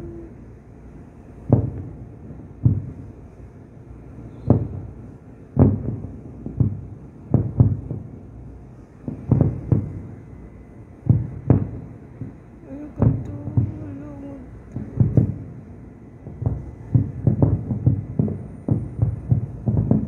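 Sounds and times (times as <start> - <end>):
distant fireworks thuds: 1.4 - 3.4, 4.2 - 20.0.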